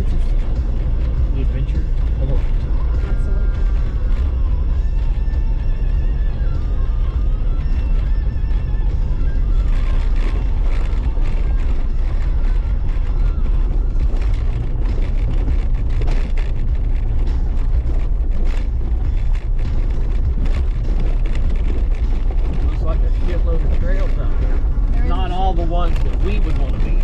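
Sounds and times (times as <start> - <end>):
tyre and engine noise: 0.0 - 27.0
wind buffeting microphone: 0.0 - 27.0.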